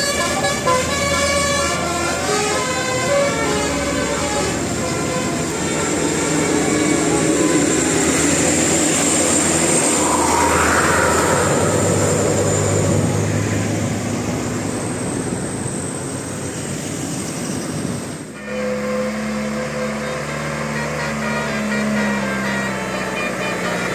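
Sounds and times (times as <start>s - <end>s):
bus diesel engine whining: 0.0s - 23.9s.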